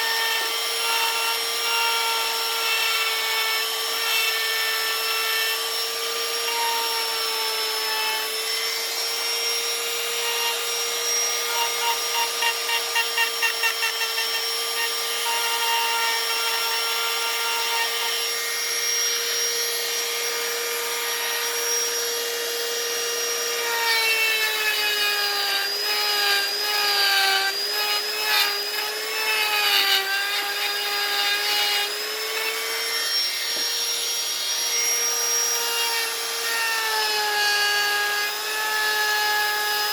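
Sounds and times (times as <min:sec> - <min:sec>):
power carving tool whining: 0:00.0 - 0:39.9.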